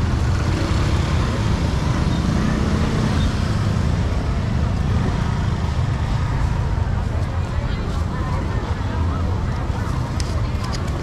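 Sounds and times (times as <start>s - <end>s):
rumble of passing vehicles: 0.0s - 11.0s.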